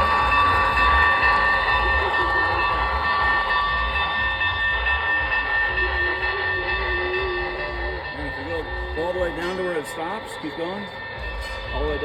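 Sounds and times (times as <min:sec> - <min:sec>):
low rumble: 0:00.0 - 0:12.0
model train high whine: 0:00.0 - 0:12.0.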